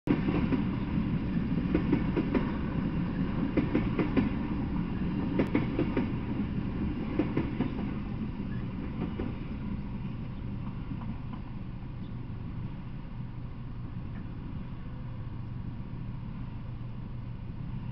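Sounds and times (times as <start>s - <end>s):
freight train rolling past: 0.1s - 17.9s.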